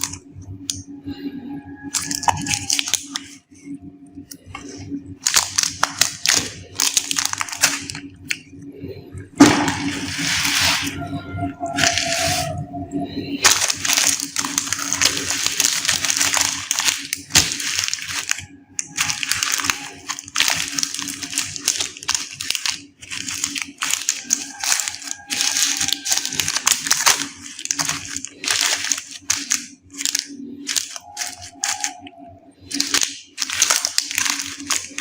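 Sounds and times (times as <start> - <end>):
plastic wrappers crinkling: 0.0 - 8.6, 9.4 - 35.0.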